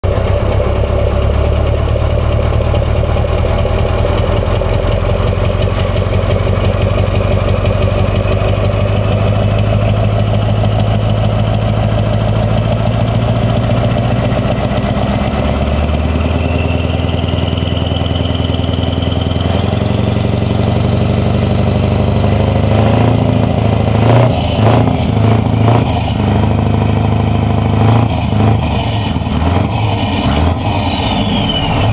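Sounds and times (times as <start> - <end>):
diesel truck engine idling and revving: 0.0 - 31.9.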